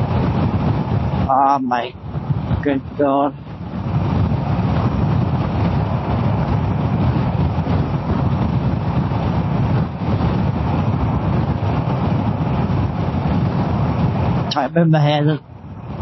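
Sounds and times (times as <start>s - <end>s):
motorcycle engine running: 0.0s - 1.4s, 2.0s - 14.7s
wind and road noise: 0.0s - 16.0s.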